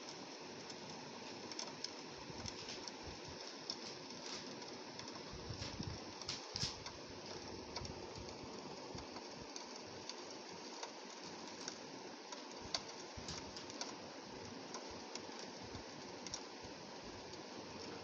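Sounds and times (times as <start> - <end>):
rain hissing: 0.0 - 18.0
raindrops ticking on glass: 0.0 - 18.0.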